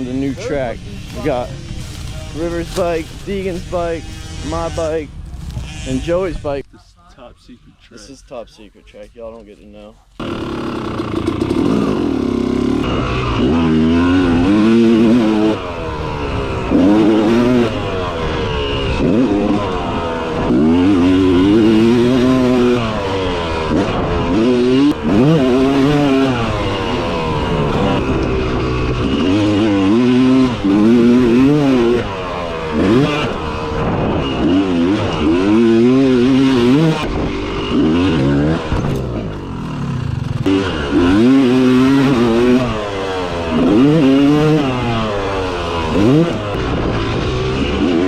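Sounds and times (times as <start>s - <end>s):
dirt bike engine revving: 0.0s - 6.6s, 10.2s - 48.0s.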